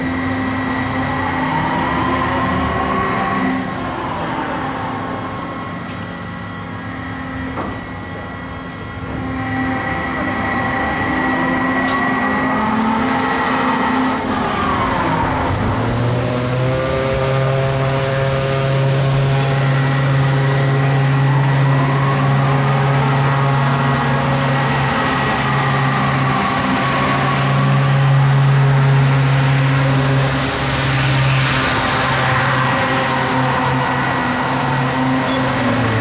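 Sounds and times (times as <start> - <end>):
ride machinery motor hum: 0.0 - 36.0.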